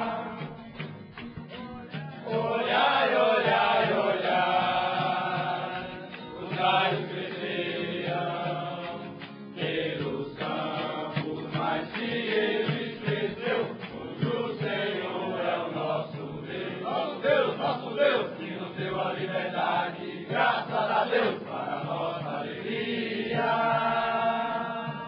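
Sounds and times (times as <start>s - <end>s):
music with singing voices: 0.0s - 25.0s.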